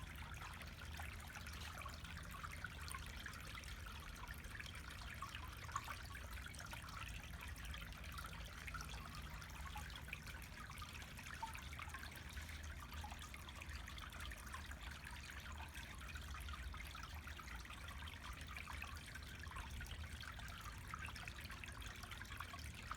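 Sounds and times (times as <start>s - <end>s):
water trickling down stone: 0.0s - 22.9s.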